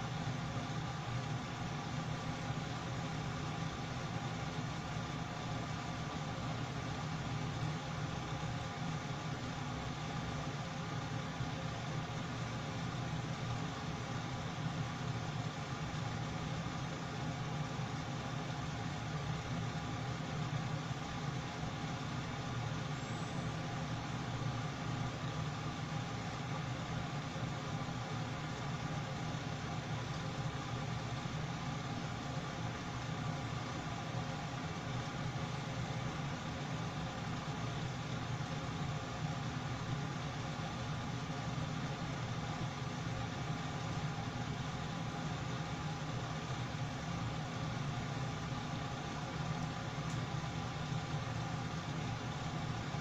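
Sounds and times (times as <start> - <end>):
ventilation fan humming: 0.0 - 53.0.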